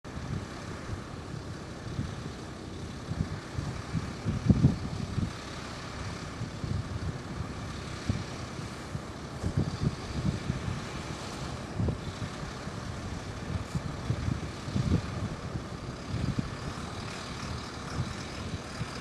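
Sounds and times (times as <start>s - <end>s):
distant jet engine rumble: 0.1s - 19.0s
wind buffeting microphone: 0.1s - 19.0s.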